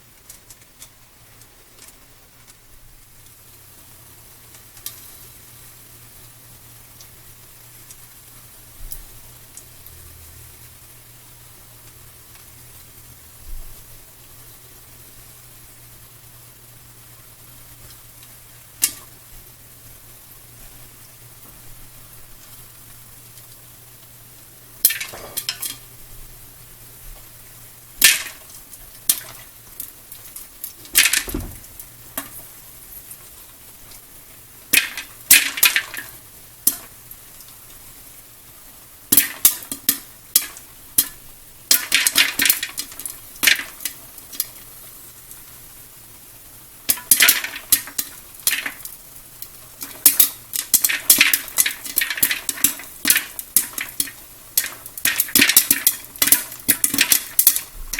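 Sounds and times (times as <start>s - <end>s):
popcorn popping: 0.0s - 15.9s, 17.1s - 57.9s.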